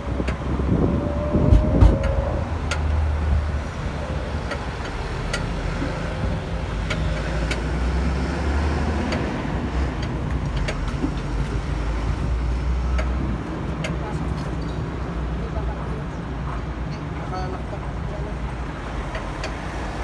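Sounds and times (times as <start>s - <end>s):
traffic: 0.0s - 20.0s.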